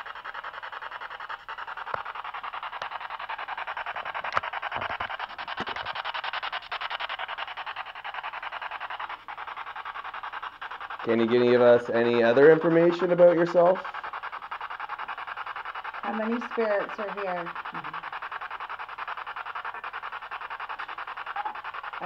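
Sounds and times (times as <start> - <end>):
pulsing radio static hiss: 0.0 - 22.0.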